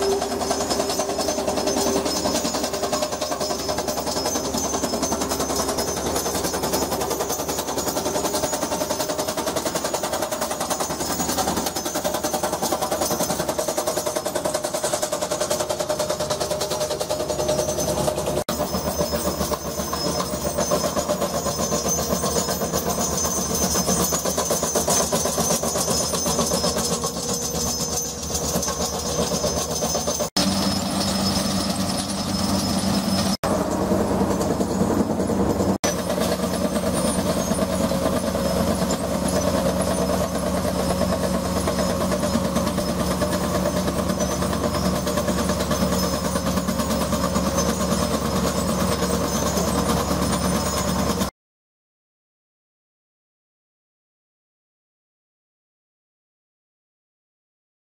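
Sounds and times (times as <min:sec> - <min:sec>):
cable plow fast rattle: 0:00.0 - 0:51.3.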